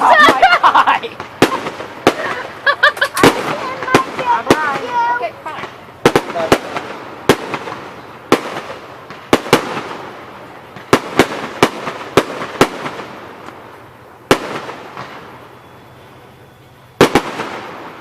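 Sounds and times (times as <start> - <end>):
fireworks bursting with bangs: 0.0 - 18.0.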